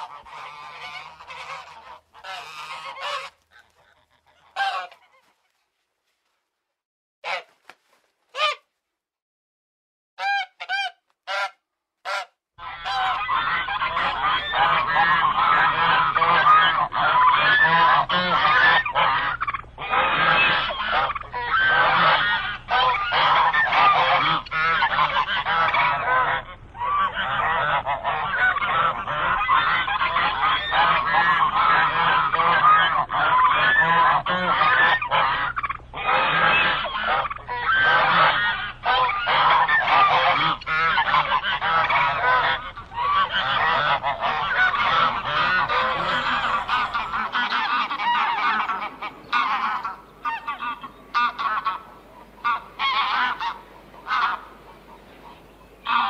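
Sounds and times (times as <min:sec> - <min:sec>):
single goose honks: 0:00.0 - 0:05.5, 0:07.2 - 0:07.7, 0:08.3 - 0:08.7, 0:10.2 - 0:56.0
flock of geese honking: 0:00.0 - 0:05.6, 0:08.3 - 0:08.6, 0:10.2 - 0:56.0.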